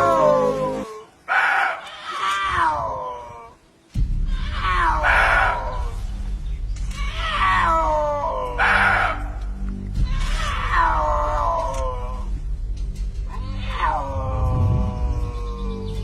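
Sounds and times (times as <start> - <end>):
low musical backing: 2.3 - 16.0.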